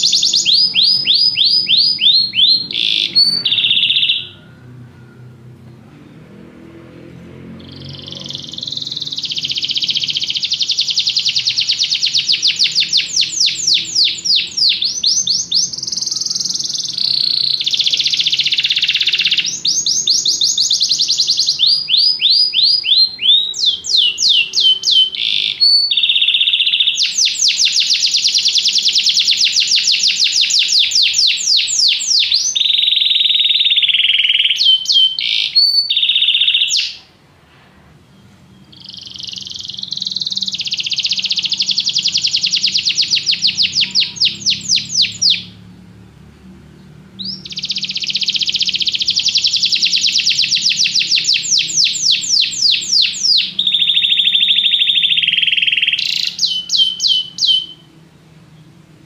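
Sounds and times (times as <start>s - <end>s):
canary singing trills: 0.0s - 5.6s, 7.2s - 37.2s, 38.0s - 58.8s.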